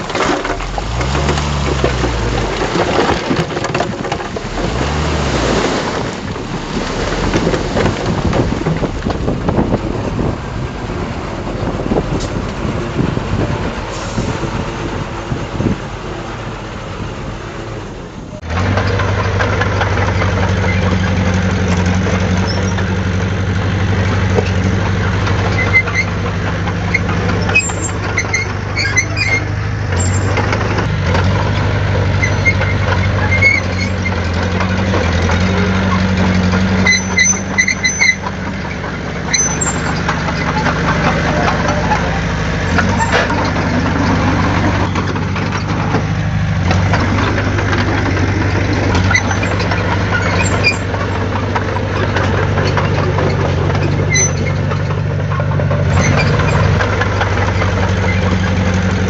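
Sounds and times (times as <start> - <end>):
heavy diesel machinery working: 0.0 - 59.0
low diesel engine drone: 0.0 - 59.0.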